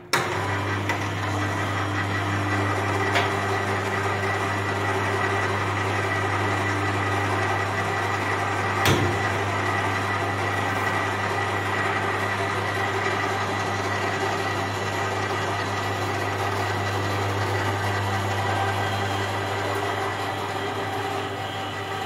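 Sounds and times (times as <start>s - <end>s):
pipe bender motor humming: 0.0s - 22.0s.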